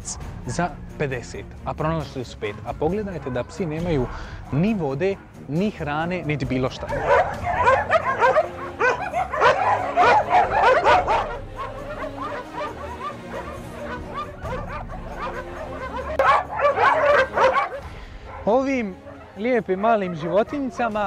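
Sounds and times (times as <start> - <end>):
dogs barking and yelping: 2.1 - 21.0.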